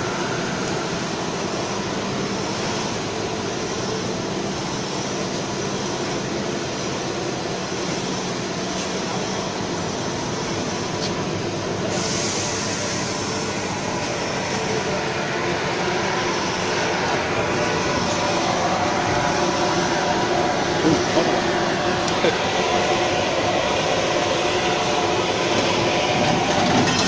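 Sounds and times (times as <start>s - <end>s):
blower fan rushing hiss: 0.0s - 26.7s
machine mechanical drone: 0.0s - 27.0s.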